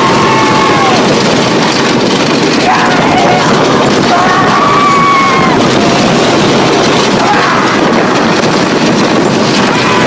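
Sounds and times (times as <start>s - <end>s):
riders yelling: 0.0s - 8.3s, 9.5s - 10.0s
roller coaster train rattling: 0.0s - 10.0s
wind rushing on microphone: 0.0s - 10.0s.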